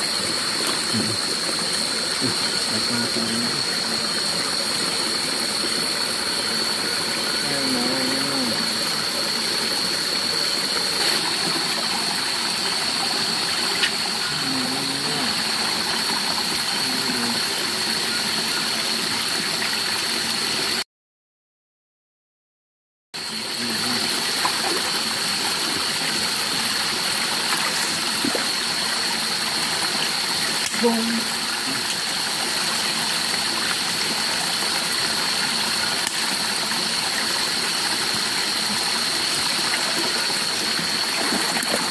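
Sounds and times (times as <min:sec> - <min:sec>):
night insects droning: 0:00.0 - 0:20.8, 0:23.2 - 0:41.9
stream running water: 0:00.0 - 0:20.8, 0:23.2 - 0:41.9.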